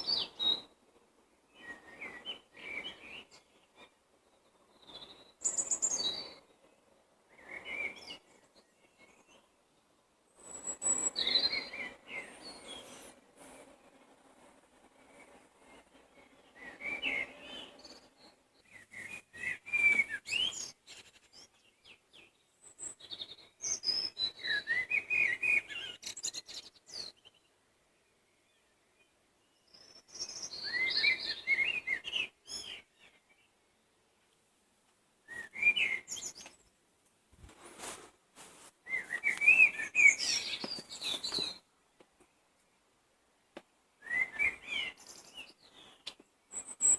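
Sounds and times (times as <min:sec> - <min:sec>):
songbirds singing: 0:00.0 - 0:00.8, 0:01.4 - 0:14.1, 0:15.0 - 0:34.3, 0:35.2 - 0:36.8, 0:38.8 - 0:46.9.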